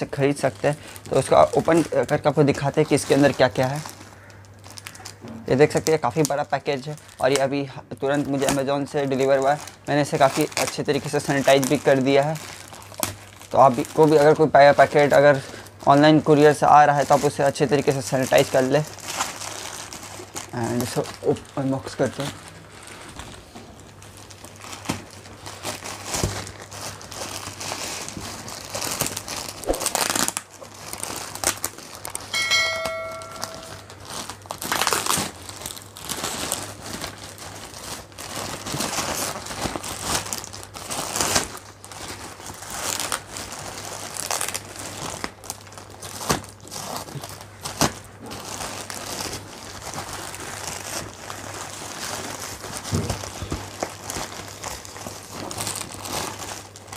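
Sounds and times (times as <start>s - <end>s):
plastic bag crinkling and tearing: 0.0s - 56.9s.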